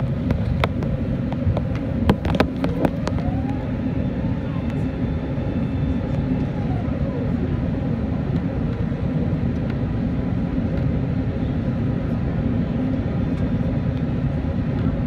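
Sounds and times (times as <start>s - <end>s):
low rumble of engines: 0.0s - 15.0s
faint steady tones: 0.8s - 15.0s.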